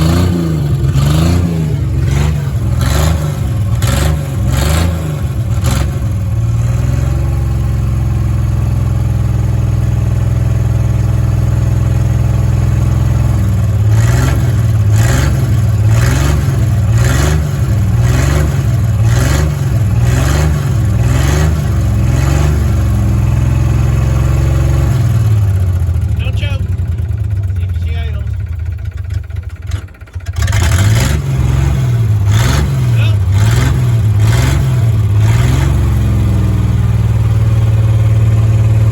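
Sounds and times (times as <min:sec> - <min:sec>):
truck engine idling and revving: 0:00.0 - 0:38.9.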